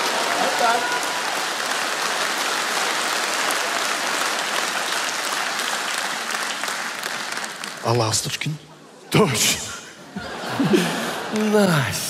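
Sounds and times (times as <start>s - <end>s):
audience applauding: 0.0s - 8.5s, 10.2s - 12.0s.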